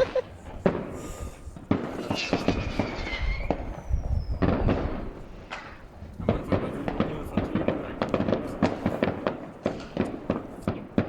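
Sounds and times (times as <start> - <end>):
fireworks banging and crackling: 0.0 - 11.0
whistling fireworks: 0.0 - 11.0.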